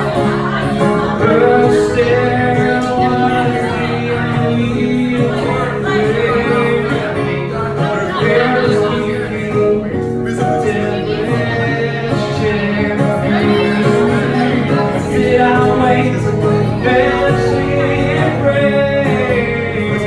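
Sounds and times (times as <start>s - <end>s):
acoustic guitar: 0.0s - 20.0s
person singing: 0.0s - 20.0s.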